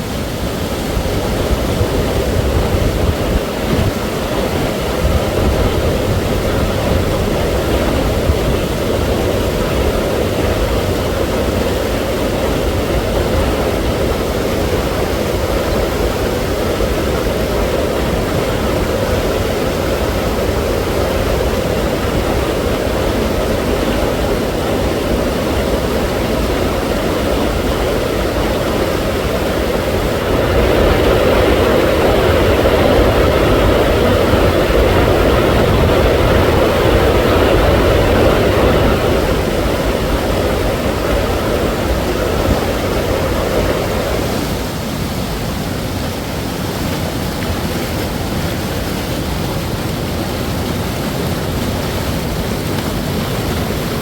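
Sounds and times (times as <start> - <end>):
loud rushing noise with rumble: 0.0 - 54.0.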